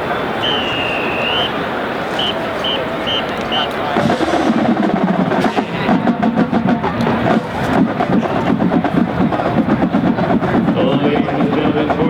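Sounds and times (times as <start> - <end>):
marching drumline playing: 2.1 - 12.0.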